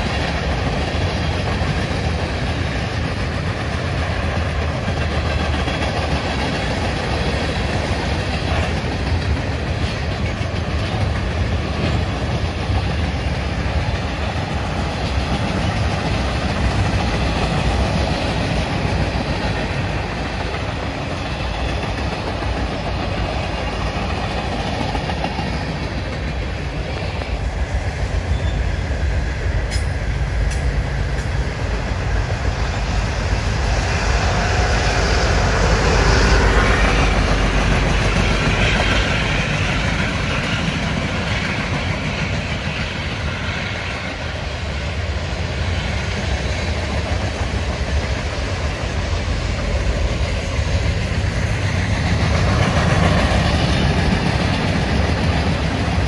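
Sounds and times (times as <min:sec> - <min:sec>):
diesel locomotive engine: 0:00.0 - 0:56.0
freight train wheels on rails: 0:00.0 - 0:56.0.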